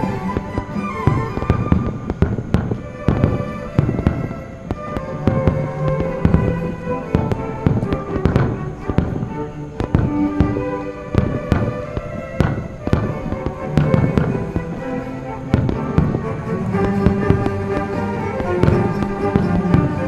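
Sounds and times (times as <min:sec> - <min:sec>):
fireworks bangs and crackles: 0:00.0 - 0:20.0
orchestral music: 0:00.0 - 0:20.0.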